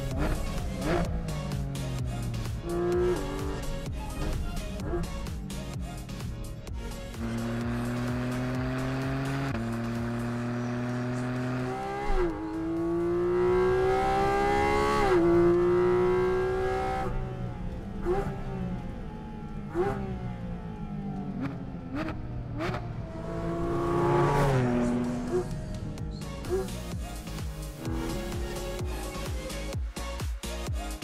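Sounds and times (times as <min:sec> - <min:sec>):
sports car engine revving: 0:00.0 - 0:06.2, 0:06.8 - 0:29.6.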